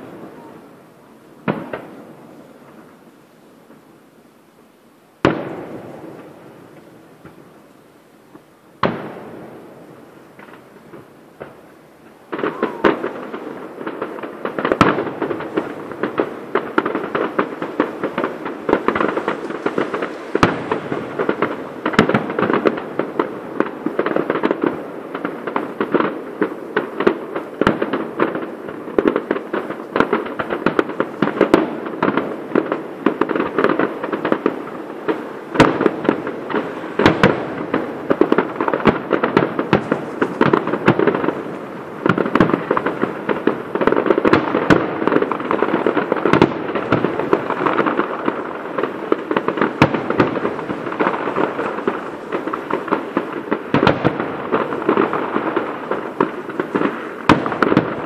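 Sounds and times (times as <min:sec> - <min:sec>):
fireworks crackling: 0:00.0 - 0:58.0
sharp firework bangs: 0:05.2 - 0:07.4, 0:08.8 - 0:11.6, 0:12.2 - 0:58.0.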